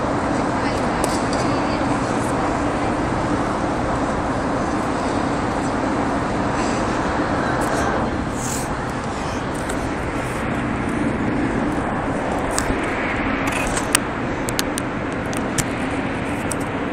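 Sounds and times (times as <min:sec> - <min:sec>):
background rumble and hiss: 0:00.0 - 0:16.9
low hum: 0:00.0 - 0:16.9.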